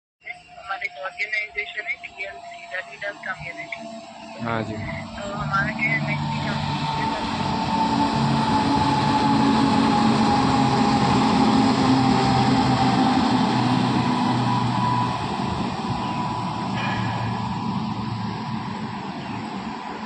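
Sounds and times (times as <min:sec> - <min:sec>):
locomotive high whine: 0:00.2 - 0:20.0
train wheels rumbling on rail: 0:01.3 - 0:20.0.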